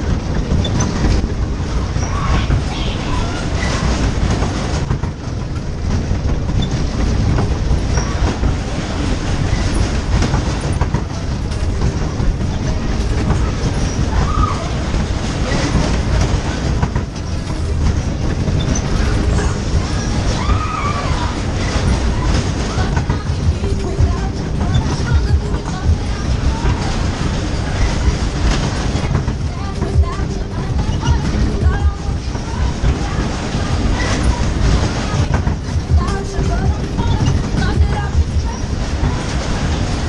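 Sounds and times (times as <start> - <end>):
ride cars rumbling on track: 0.0 - 40.0
wheels clattering on rails: 0.0 - 40.0.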